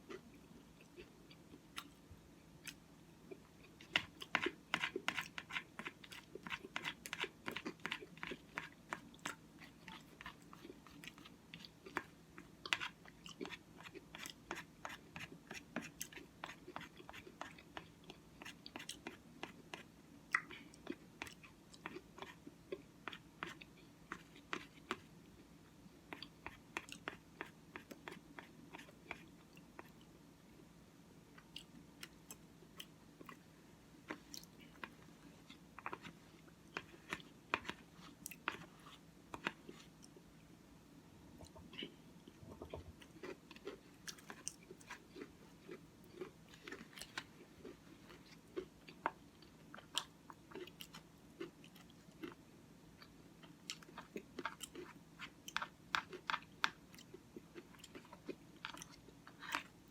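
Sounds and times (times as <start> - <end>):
chewing and crunching cereal: 0.0 - 30.2, 31.3 - 40.3, 41.4 - 59.9
low steady hum: 0.0 - 59.9.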